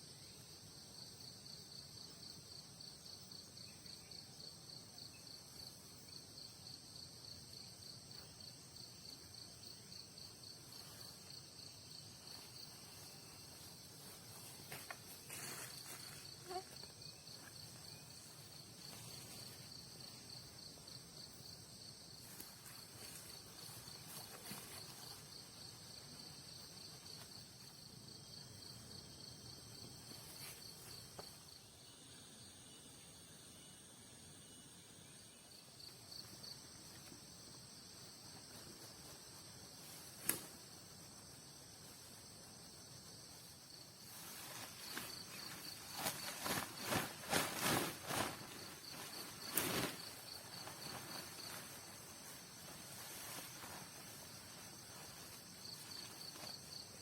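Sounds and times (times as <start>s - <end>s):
cricket chirping in rapid pulse: 0.0s - 57.0s
high insect buzz: 0.0s - 57.0s.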